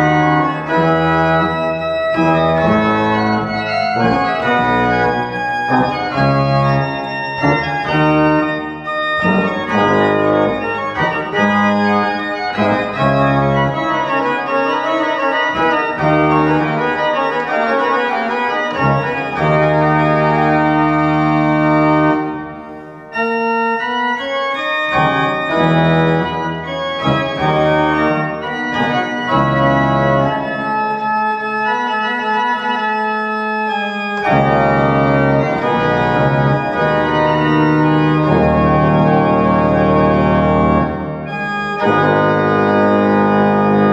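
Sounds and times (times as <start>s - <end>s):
pipe organ chords: 0.0s - 43.9s.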